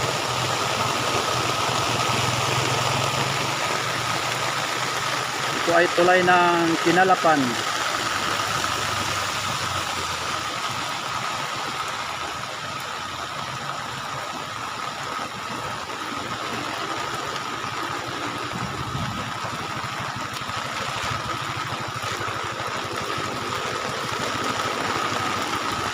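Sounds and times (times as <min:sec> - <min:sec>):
constant high whine: 0:00.0 - 0:25.9
engine idling: 0:00.0 - 0:25.9.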